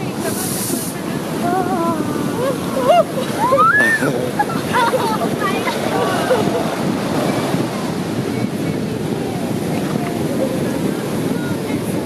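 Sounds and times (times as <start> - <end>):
ocean surf breaking on beach: 0.0 - 12.0
wind buffeting microphone: 0.0 - 12.0.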